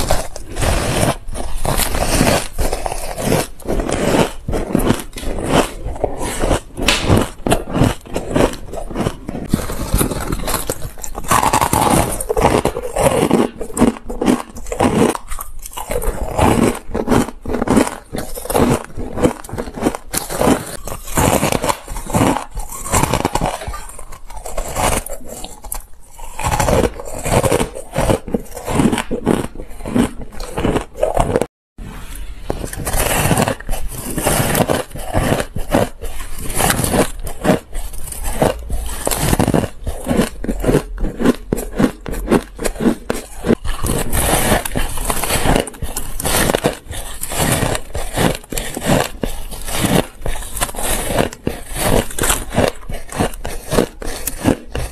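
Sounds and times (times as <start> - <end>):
crushed ice crunching in mouth: 0.0 - 31.5, 32.4 - 54.9.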